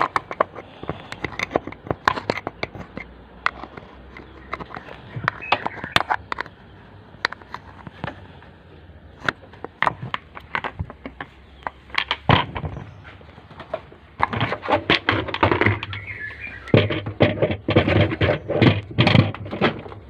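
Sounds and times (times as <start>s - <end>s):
plastic parts clicking and knocking: 0.0s - 20.0s.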